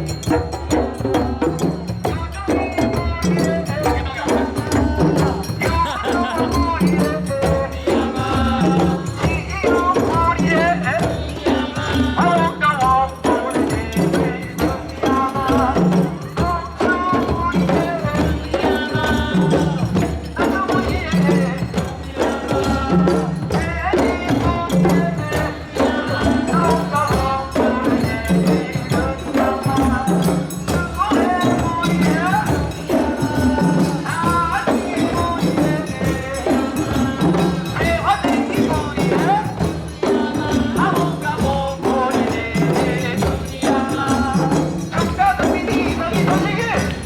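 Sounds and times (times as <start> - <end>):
drums: 0.0 - 47.0
group singing: 0.0 - 47.0
percussion playing steady beat: 0.0 - 47.0.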